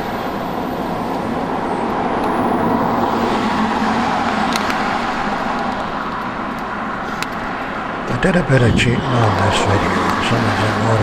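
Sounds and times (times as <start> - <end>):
passing cars rushing: 0.0 - 11.0.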